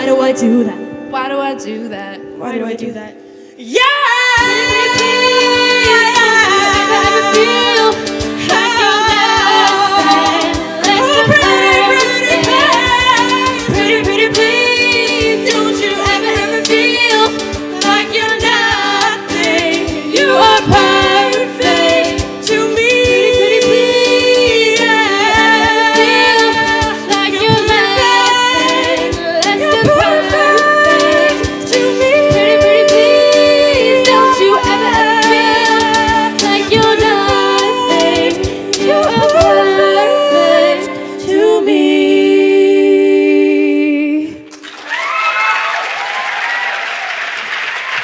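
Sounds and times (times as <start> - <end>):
instrumental backing: 0.0 - 42.0
choir singing: 3.8 - 44.5.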